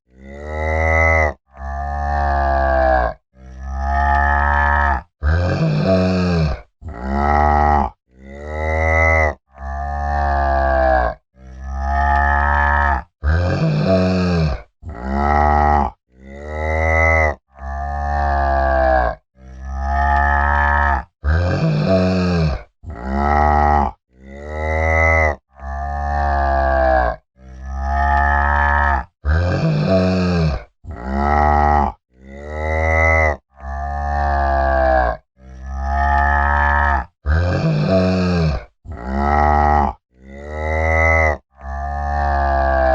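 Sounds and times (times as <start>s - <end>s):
cow mooing: 0.1s - 42.9s.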